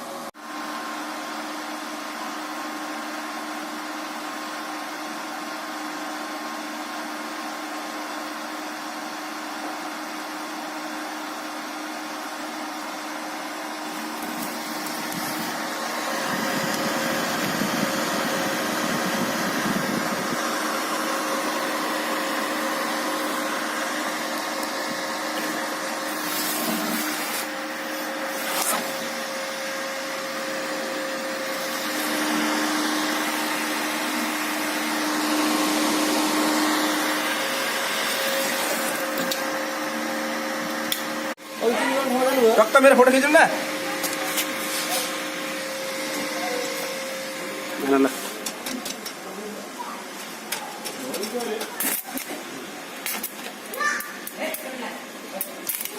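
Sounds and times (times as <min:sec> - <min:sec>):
welding machine fan whirring: 0:00.0 - 0:55.9.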